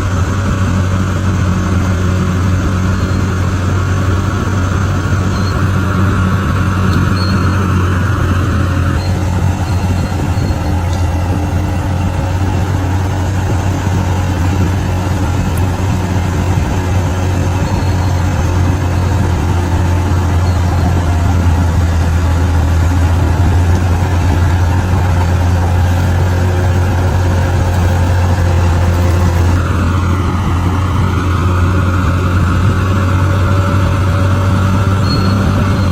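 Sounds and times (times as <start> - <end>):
bulldozer diesel engine droning: 0.0 - 35.9.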